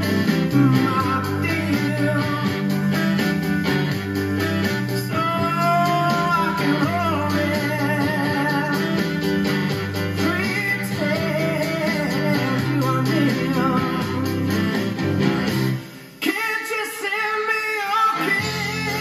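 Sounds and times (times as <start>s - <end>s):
man singing: 0.0s - 3.3s, 4.6s - 15.4s, 16.2s - 19.0s
small band playing: 0.0s - 19.0s.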